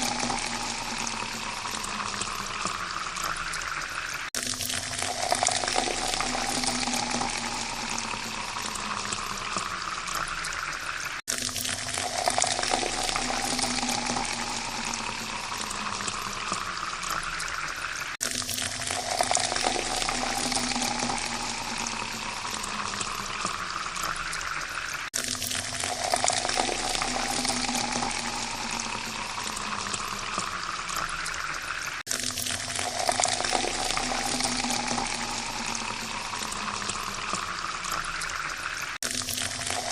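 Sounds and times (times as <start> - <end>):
water pouring into a glass: 0.0 - 39.9.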